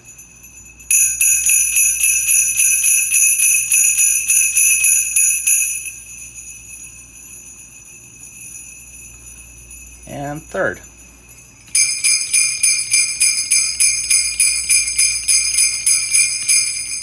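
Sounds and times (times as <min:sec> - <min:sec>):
sleigh bells jingling: 0:00.0 - 0:17.0.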